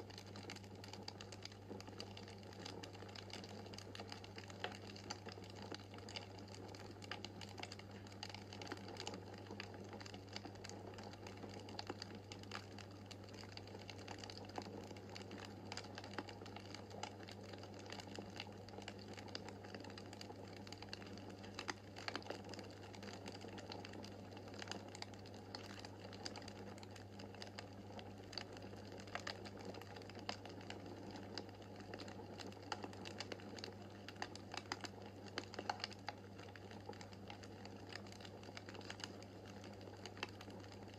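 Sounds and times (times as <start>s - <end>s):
wood fire popping and snapping: 0.0s - 40.9s.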